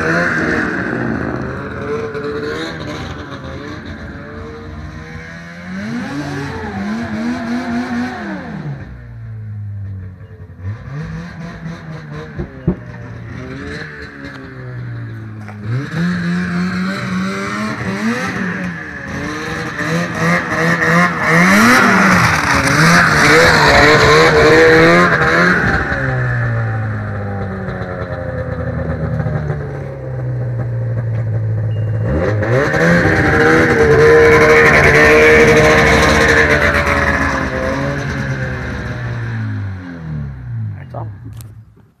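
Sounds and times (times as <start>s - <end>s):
snowmobile engine revving: 0.0s - 9.5s, 10.6s - 41.4s.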